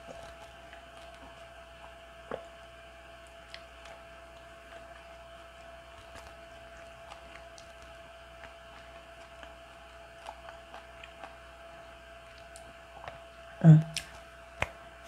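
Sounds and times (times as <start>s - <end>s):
thin steady hum: 0.0s - 15.0s.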